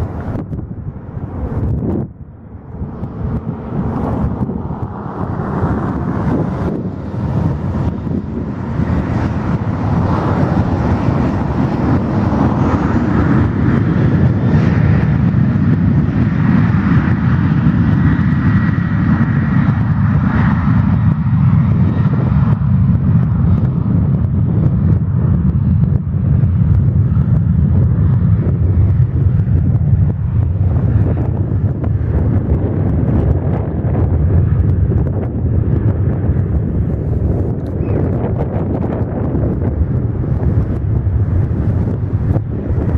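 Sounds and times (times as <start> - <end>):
faint jet engine whine: 0.0 - 42.9
jet engines rumbling: 0.0 - 42.9.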